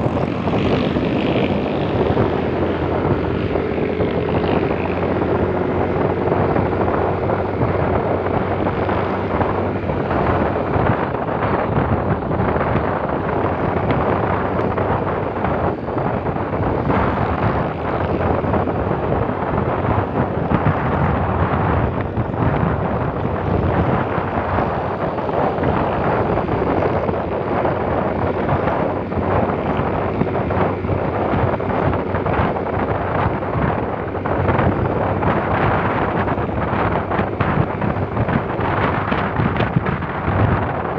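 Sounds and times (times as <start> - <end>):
motorbike engine: 0.0 - 40.9
road noise: 0.0 - 40.9
wind buffeting microphone: 0.0 - 40.9.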